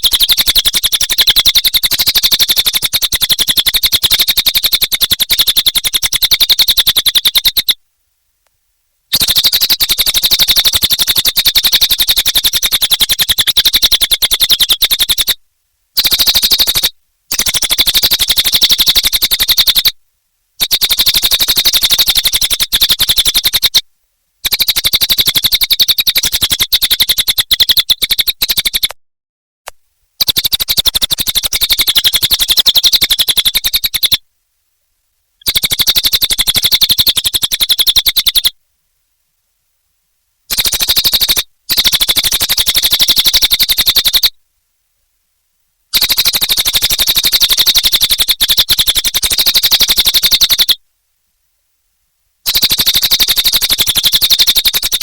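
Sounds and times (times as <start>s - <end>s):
bird chattering song: 0.0s - 7.8s, 9.1s - 15.4s, 16.0s - 20.0s, 20.6s - 23.8s, 24.4s - 29.0s, 30.2s - 34.2s, 35.4s - 38.5s, 40.5s - 44.3s, 46.0s - 50.8s, 52.5s - 55.0s.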